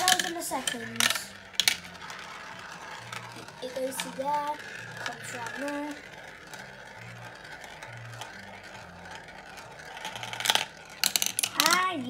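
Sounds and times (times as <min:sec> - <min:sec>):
marble rolling in plastic funnel: 0:00.0 - 0:12.0.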